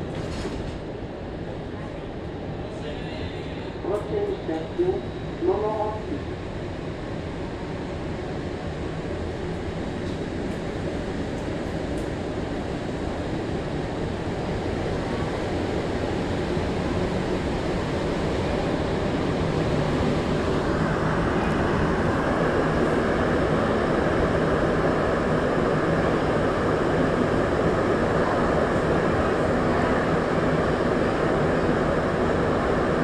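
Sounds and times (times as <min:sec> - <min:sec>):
train interior running noise: 0:00.0 - 0:33.0.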